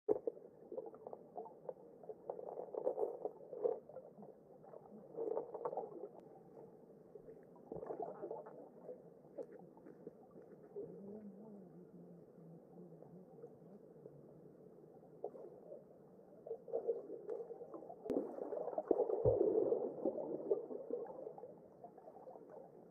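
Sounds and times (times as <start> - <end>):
underwater stream crackling and bubbling: 0.1 - 22.9.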